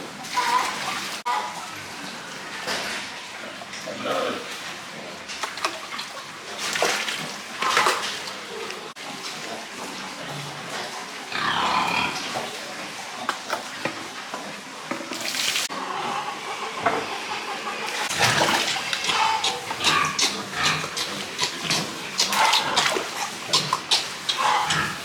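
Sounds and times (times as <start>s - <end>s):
pigs calling: 0.0s - 25.0s.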